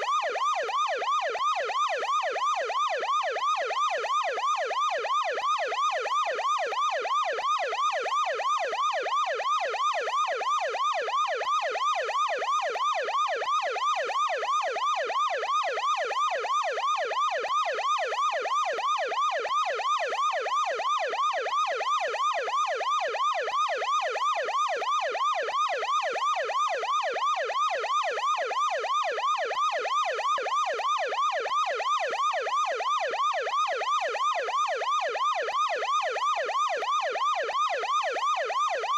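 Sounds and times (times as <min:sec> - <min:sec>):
ambulance siren yelping: 0:00.0 - 0:38.9.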